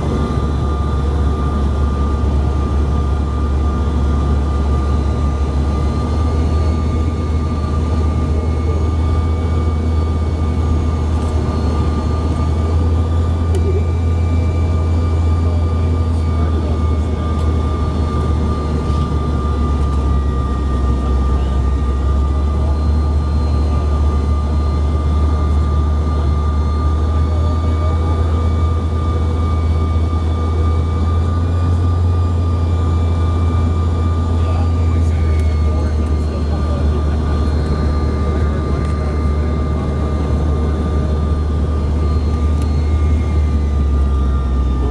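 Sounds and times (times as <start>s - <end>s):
jet cabin low rumble: 0.0s - 44.9s
jet engine whine: 0.0s - 44.9s.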